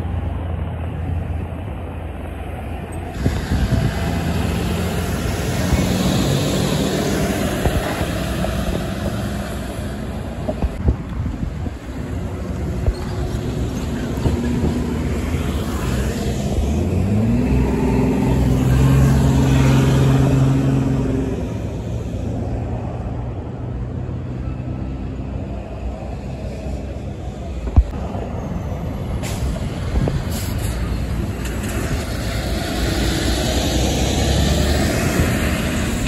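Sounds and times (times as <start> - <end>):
diesel truck rumbling past: 0.0 - 36.0
steady traffic noise: 0.0 - 36.0
vehicle engine accelerating: 3.0 - 10.8, 12.0 - 36.0.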